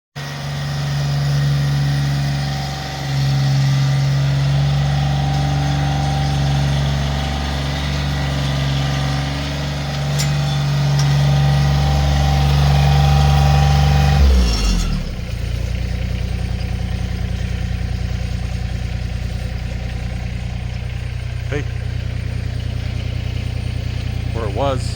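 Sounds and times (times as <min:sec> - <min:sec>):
tractor diesel engine running: 0:00.2 - 0:24.9.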